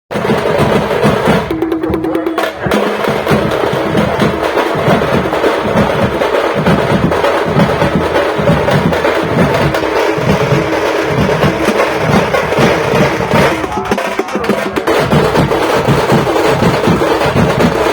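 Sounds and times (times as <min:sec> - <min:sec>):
music with percussion beat: 0:00.1 - 0:17.9.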